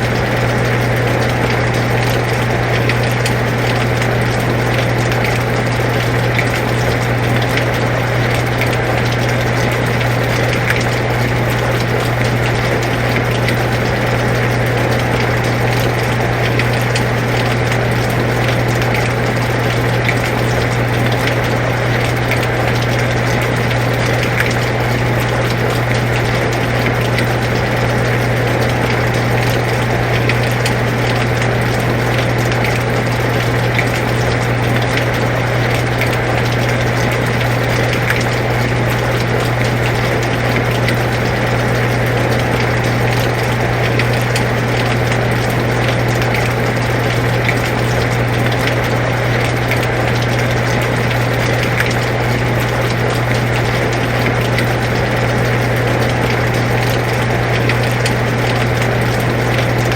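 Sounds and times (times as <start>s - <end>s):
air conditioner humming: 0.0s - 59.9s
rain falling: 0.0s - 59.9s
light rain ticks: 0.2s - 59.9s.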